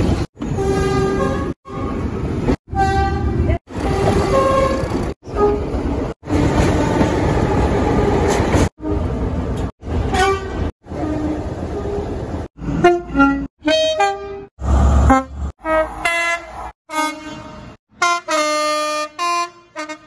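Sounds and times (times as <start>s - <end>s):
diesel engine and rail rumble: 0.0s - 19.0s
diesel locomotive horns: 0.4s - 20.0s.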